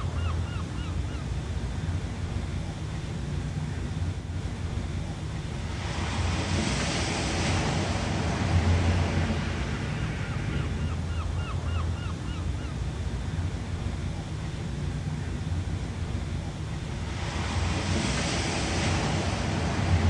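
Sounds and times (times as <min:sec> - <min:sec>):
ocean surf washing: 0:00.0 - 0:20.0.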